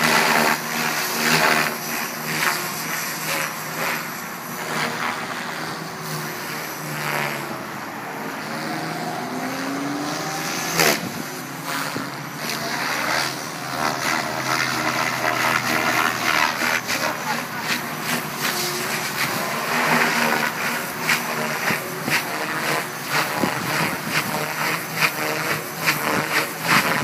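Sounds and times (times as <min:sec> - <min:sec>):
electric motor whining: 0:00.0 - 0:27.0
helicopter rotor blades whooshing: 0:00.0 - 0:27.0.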